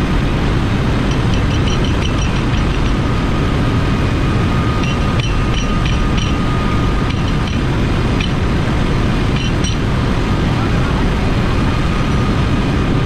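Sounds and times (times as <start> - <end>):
engine-room machinery drone: 0.0 - 13.0.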